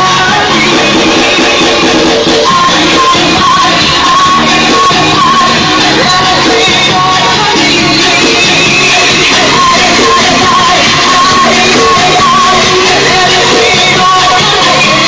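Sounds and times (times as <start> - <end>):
loud music with singing: 0.0 - 15.0.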